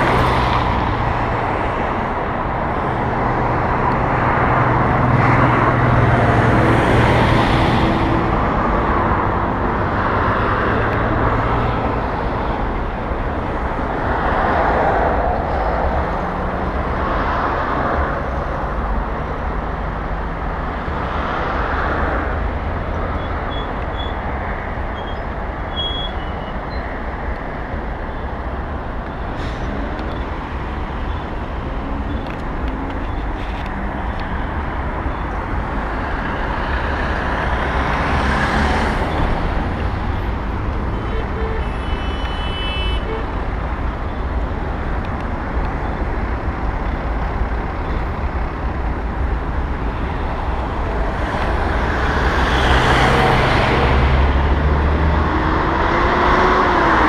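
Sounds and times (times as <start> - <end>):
traffic noise: 0.0 - 57.0.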